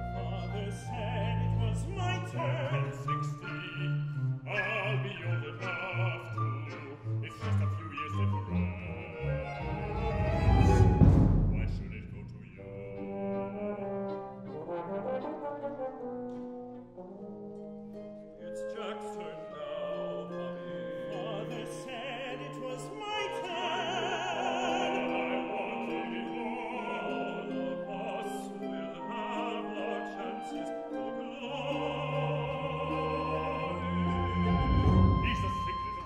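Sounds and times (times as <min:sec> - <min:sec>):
male opera voices singing: 0:00.0 - 0:15.1, 0:18.4 - 0:36.0
chamber ensemble playing: 0:00.0 - 0:36.0.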